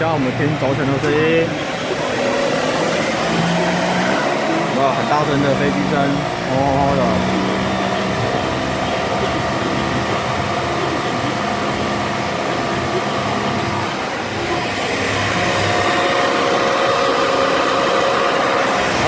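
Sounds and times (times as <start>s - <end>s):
wheel bearing droning hum: 0.0s - 19.0s.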